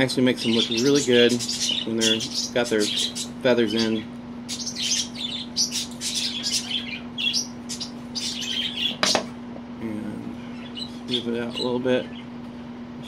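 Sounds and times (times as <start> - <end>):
budgie chirping and chattering: 0.4 - 9.2, 10.4 - 12.3.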